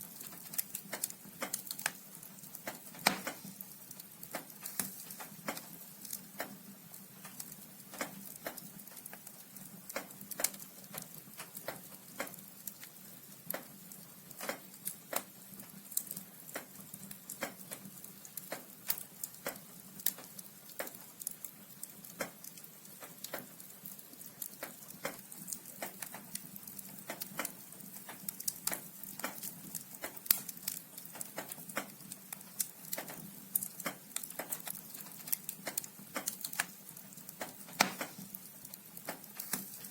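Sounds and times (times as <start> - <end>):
logs crackling and popping: 0.0 - 39.9
soft fire hiss: 0.0 - 39.9.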